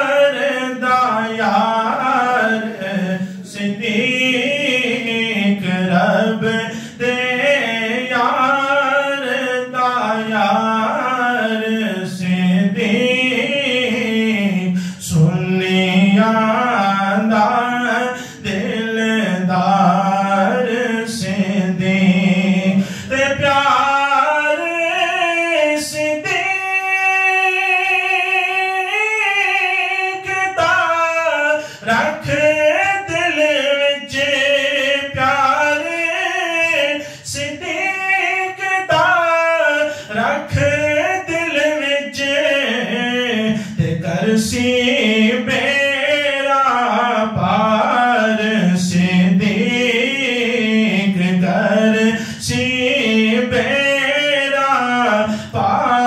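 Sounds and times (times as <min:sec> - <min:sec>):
man singing unaccompanied: 0:00.0 - 0:56.0.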